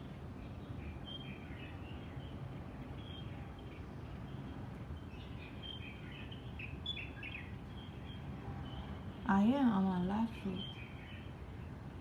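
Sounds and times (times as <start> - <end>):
low city rumble: 0.0 - 12.0
small birds chirping: 0.0 - 12.0.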